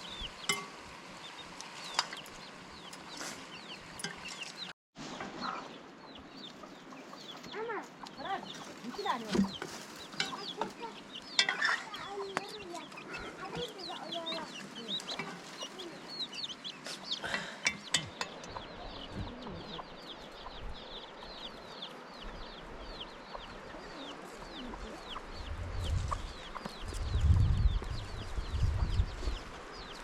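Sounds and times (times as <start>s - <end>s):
chicks peeping: 1.2s - 30.0s.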